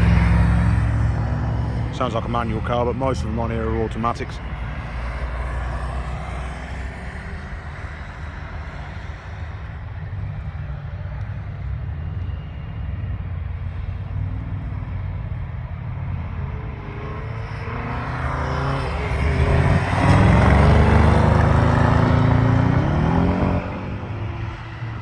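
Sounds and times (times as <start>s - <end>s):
racing car engines rumbling: 0.0s - 25.0s.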